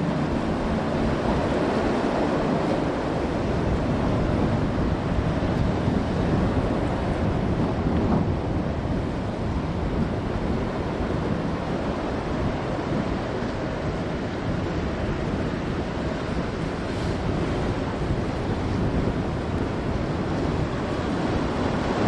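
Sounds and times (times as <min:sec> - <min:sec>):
ocean surf rushing: 0:00.0 - 0:22.0
wind buffeting microphone: 0:00.0 - 0:22.0.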